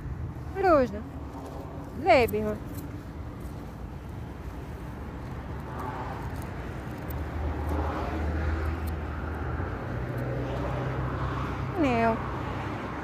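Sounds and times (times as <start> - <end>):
outdoor street noise: 0.0 - 13.0.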